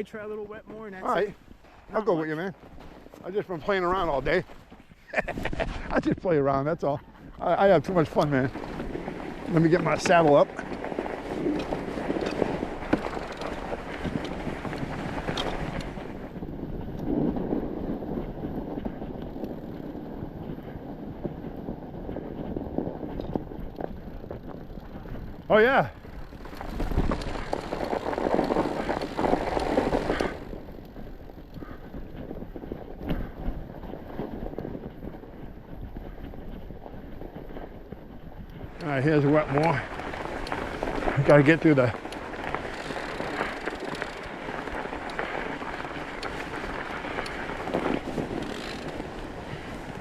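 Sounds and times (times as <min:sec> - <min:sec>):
chained bike tires crunching snow: 0:00.0 - 0:50.0
wind on microphone: 0:03.8 - 0:50.0.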